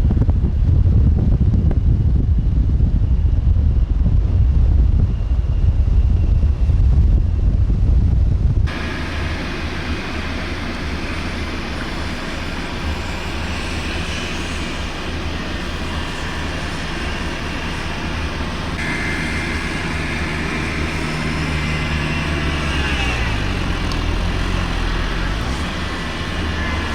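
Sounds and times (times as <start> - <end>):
high-pitched whine: 0.0 - 26.9
vehicle engine humming: 1.2 - 26.9.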